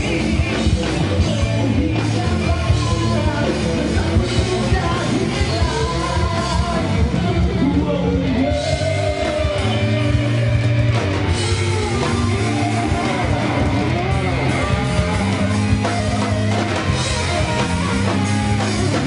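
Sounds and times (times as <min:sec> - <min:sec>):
electric guitar melody: 0:00.0 - 0:19.0
rock band music: 0:00.0 - 0:19.0.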